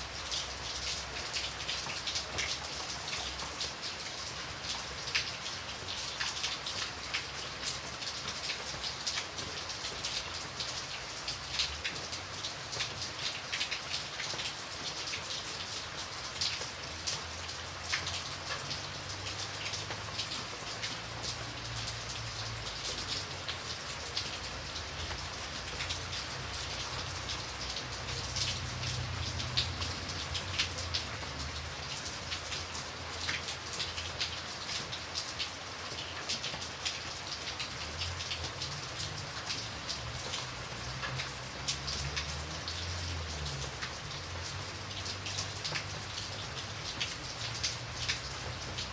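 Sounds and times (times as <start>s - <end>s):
light rain hiss: 0.0s - 48.9s
raindrops ticking on a surface: 0.0s - 48.9s.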